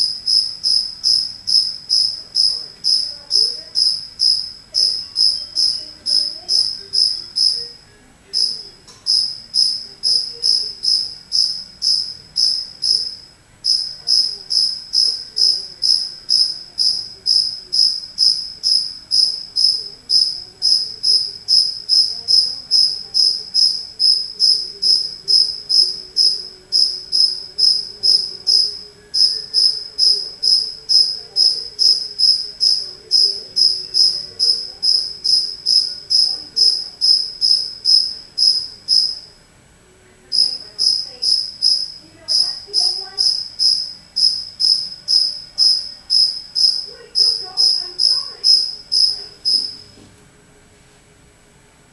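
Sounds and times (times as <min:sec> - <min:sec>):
cricket chirping: 0:00.0 - 0:39.4, 0:40.3 - 0:50.0.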